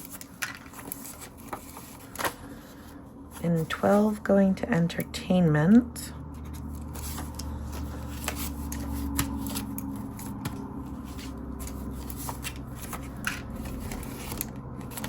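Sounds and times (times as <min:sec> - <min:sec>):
banknotes rustling and flicking: 0:00.0 - 0:04.4, 0:06.2 - 0:15.0
steady low hum: 0:00.0 - 0:15.0.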